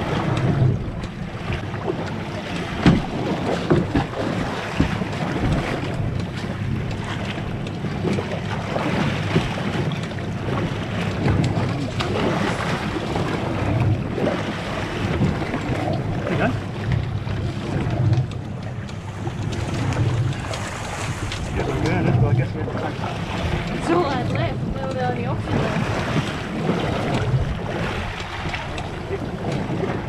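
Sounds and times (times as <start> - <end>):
water lapping against boat hull: 0.0 - 30.0
wind buffeting microphone: 0.0 - 30.0.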